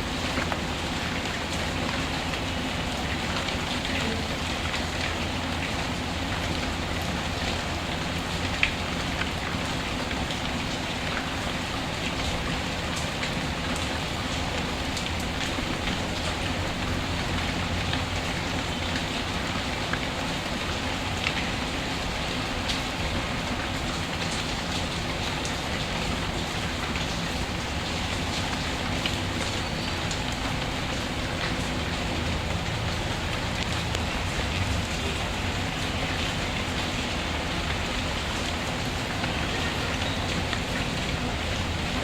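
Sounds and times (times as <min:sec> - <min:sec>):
rain falling: 0:00.0 - 0:42.0.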